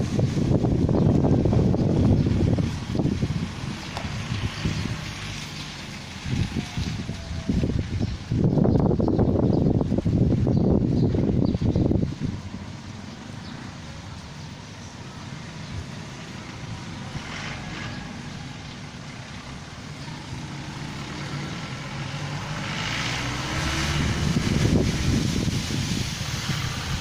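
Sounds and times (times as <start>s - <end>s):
tyre and road noise: 0.0s - 27.0s
vehicle engine hum: 0.0s - 27.0s.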